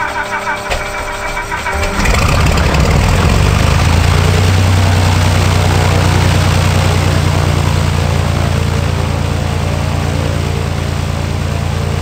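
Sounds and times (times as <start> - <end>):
aircraft engine and propeller idling: 0.0 - 12.0.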